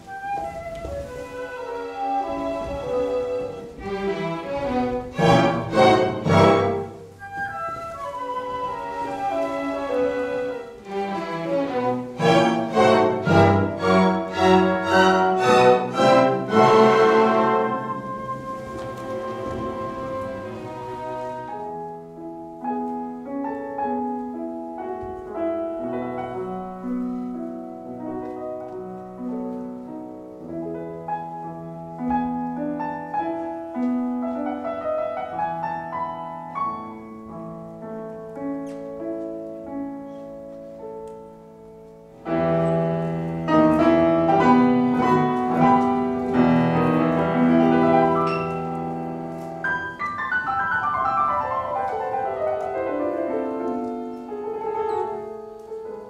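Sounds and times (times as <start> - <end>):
slow classical piano piece: 0.0 - 56.0.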